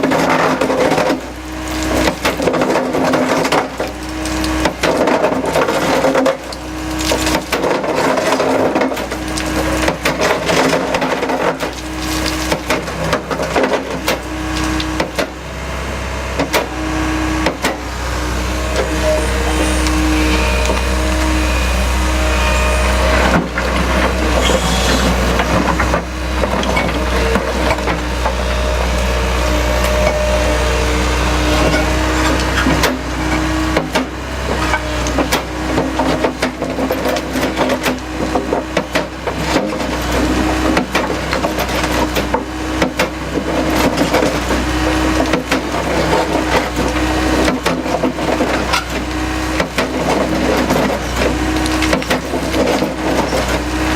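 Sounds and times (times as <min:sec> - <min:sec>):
concrete rubble cracking and crunching: 0:00.0 - 0:53.9
excavator diesel engine running: 0:00.0 - 0:53.9.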